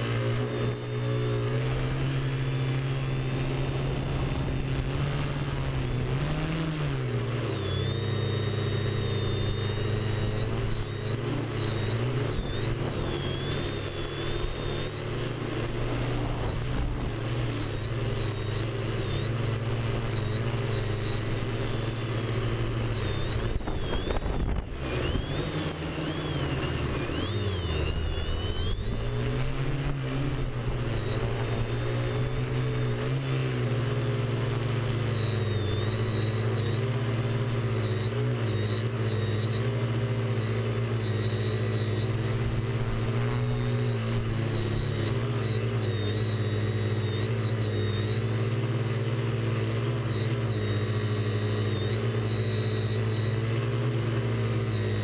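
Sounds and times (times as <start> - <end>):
quadcopter motors humming: 0.0 - 55.0
thin high whine: 0.0 - 55.0.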